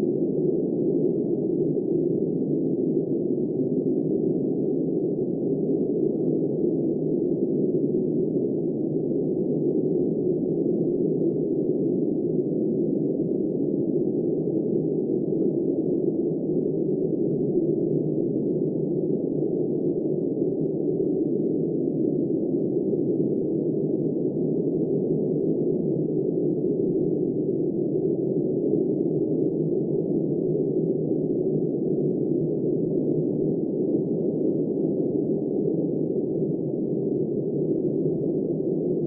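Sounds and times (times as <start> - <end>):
muffled blizzard wind: 0.0 - 39.0.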